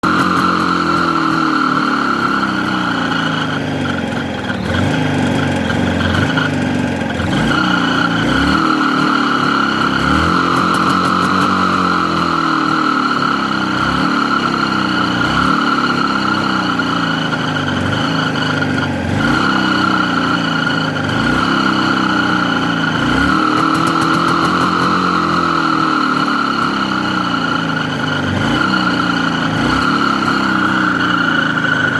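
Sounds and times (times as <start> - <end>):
high grinding whistle: 0.0 - 31.9
two-stroke motorcycle engine revving: 0.0 - 31.9.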